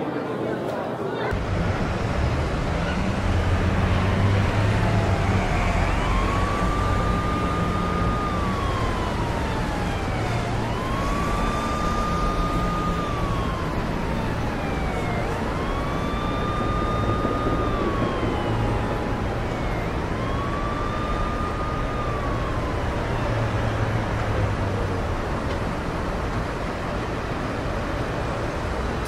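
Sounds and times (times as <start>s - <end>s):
street and traffic noise: 0.0s - 29.0s
emergency vehicle siren wailing: 1.3s - 29.0s.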